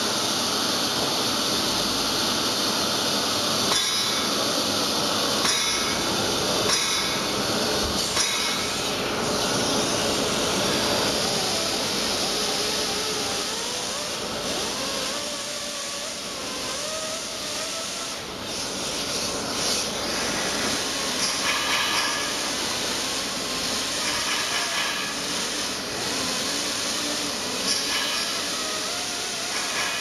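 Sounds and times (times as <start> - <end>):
die grinder whine on metal: 0.0 - 30.0.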